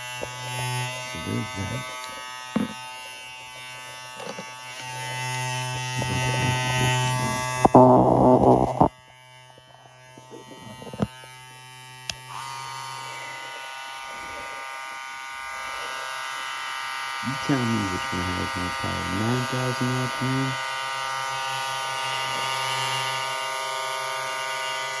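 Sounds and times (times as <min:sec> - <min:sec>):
hair clippers buzzing: 0:00.0 - 0:25.0.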